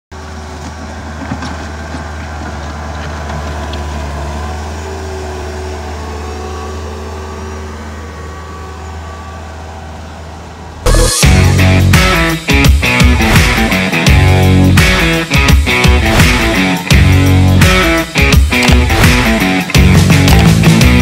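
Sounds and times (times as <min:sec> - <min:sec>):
loader diesel engine running: 0:00.1 - 0:21.0.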